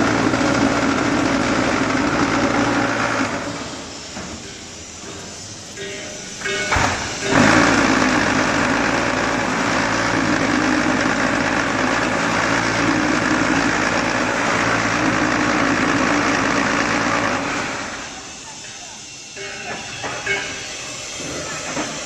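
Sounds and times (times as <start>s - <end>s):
vibration motors humming and rattling: 0.0s - 18.6s.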